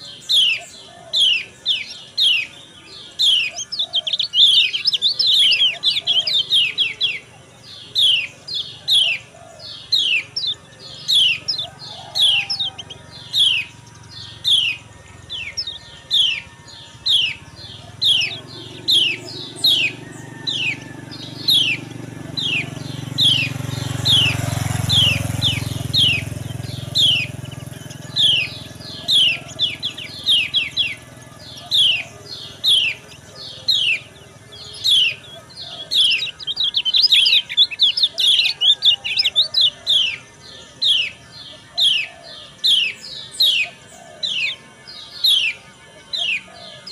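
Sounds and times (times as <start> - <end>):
bird calling high falling notes: 0.0 - 46.9.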